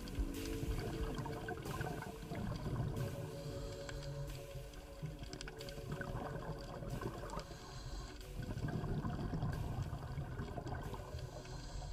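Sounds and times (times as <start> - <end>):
underwater crackling and bubbling: 0.0 - 11.9
underwater watery rush: 0.0 - 11.9.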